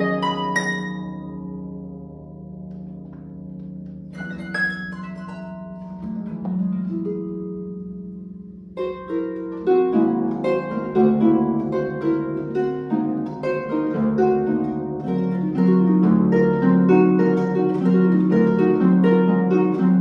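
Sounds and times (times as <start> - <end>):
harp plucked notes and chords: 0.0 - 20.0.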